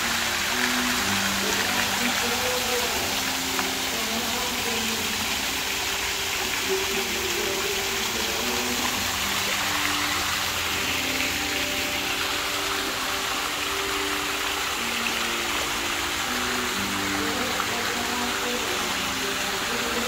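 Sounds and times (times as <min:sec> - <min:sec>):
soft melodic music: 0:00.0 - 0:20.0.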